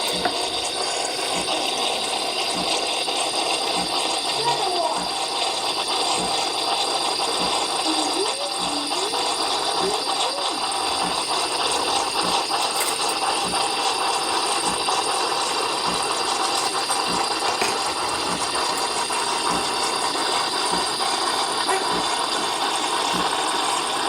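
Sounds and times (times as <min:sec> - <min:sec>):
kitchen appliance rattling: 0:00.0 - 0:24.0.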